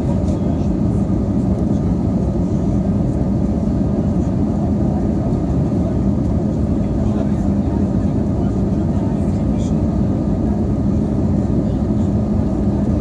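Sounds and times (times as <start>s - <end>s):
jet engine and airflow roar: 0.0s - 13.0s.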